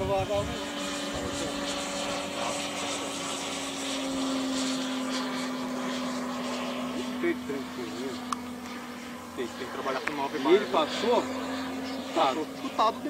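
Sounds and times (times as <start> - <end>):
model plane droning overhead: 0.0 - 13.0.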